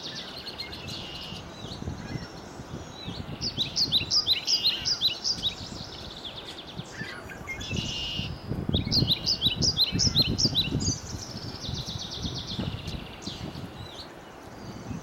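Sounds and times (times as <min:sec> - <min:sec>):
songbird singing high notes: 0:00.0 - 0:15.0.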